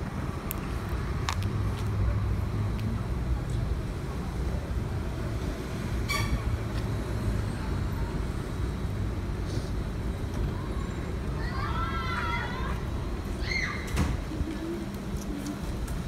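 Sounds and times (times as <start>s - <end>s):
street traffic rumbling: 0.0s - 16.0s.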